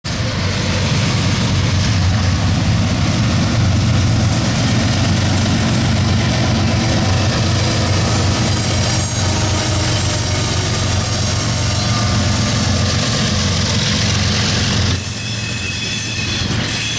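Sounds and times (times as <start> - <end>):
diesel locomotives passing: 0.0 - 16.9.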